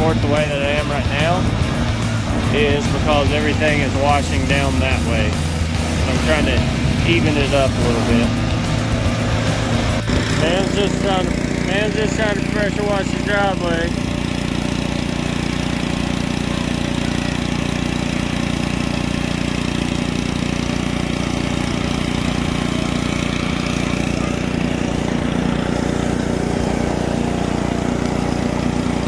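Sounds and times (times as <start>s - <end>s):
pressure washer engine running: 0.0s - 29.0s.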